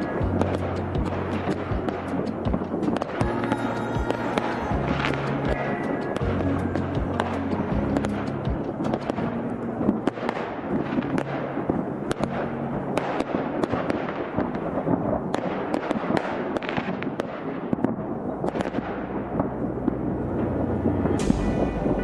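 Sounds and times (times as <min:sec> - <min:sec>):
fireworks bangs and pops: 0:00.0 - 0:22.0
fireworks crackle: 0:00.0 - 0:22.0.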